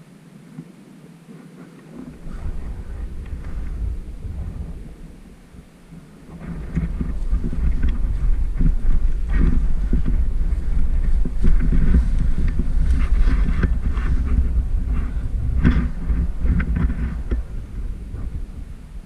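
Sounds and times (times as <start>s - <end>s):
microphone handling noise: 0.5s - 19.0s
clicks and rustles: 1.3s - 18.4s
wind buffeting microphone: 1.8s - 19.0s.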